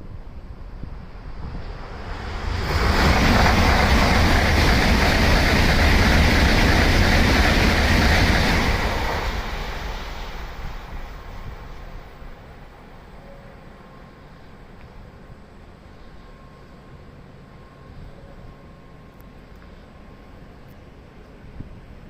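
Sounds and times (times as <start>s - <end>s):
high-speed train rushing past: 0.0s - 18.4s.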